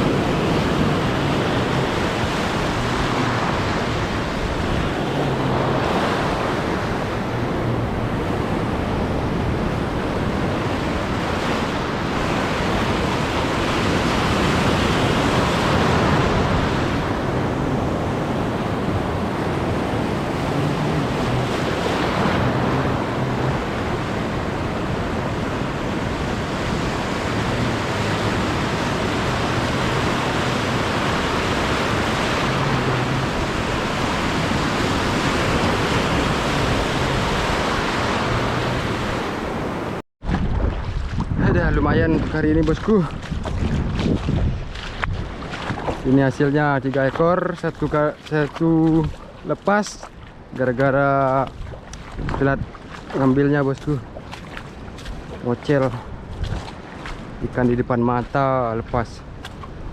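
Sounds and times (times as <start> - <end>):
sea waves washing ashore: 0.0 - 59.9
wind buffeting microphone: 0.0 - 59.9.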